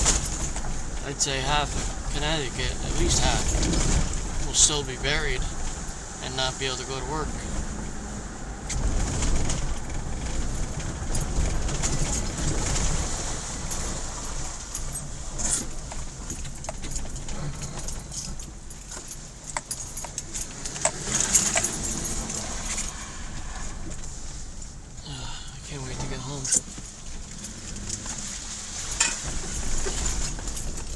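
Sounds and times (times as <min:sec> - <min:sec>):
light clinks and rattles: 0:00.0 - 0:25.0, 0:25.6 - 0:30.9
car road rumble: 0:00.0 - 0:30.9.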